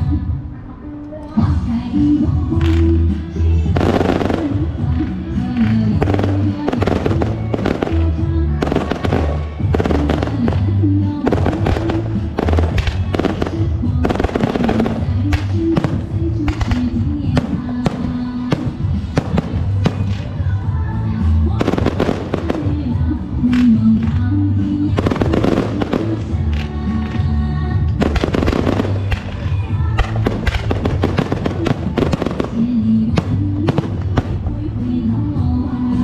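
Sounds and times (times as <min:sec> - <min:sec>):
loud music with heavy bass: 0:01.5 - 0:36.0
fireworks and firecrackers banging: 0:02.2 - 0:36.0.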